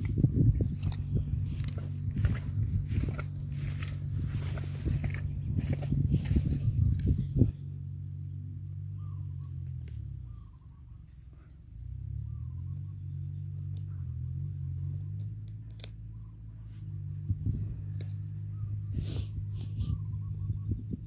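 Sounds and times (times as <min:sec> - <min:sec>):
faint high insect trill: 0:00.0 - 0:20.2
low motor drone: 0:00.0 - 0:21.0.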